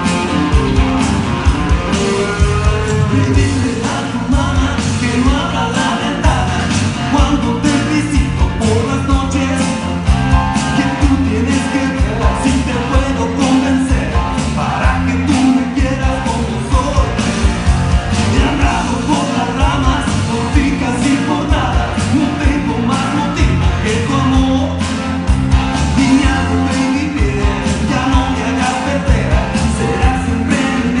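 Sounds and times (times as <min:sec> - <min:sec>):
moving bass line: 0:00.0 - 0:31.0
person singing: 0:01.6 - 0:17.4, 0:18.1 - 0:25.0, 0:25.8 - 0:31.0.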